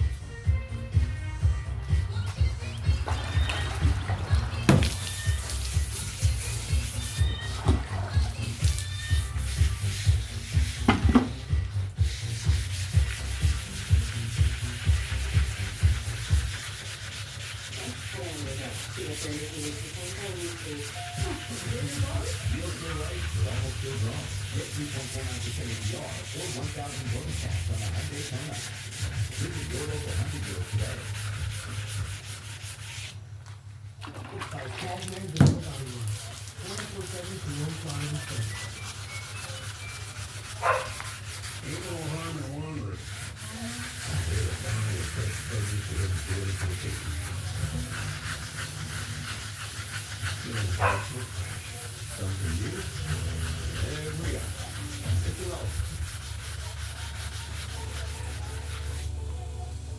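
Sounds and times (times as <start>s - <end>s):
wet sanding strokes on fiberglass: 1.8s - 33.2s, 34.8s - 59.3s.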